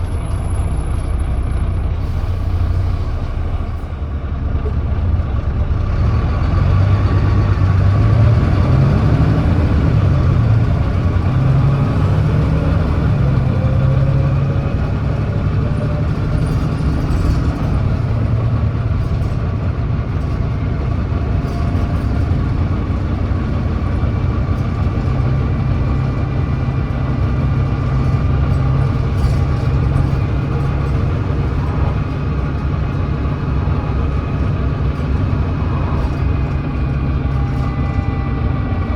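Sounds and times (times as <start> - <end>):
bus diesel engine accelerating: 0.0 - 38.9.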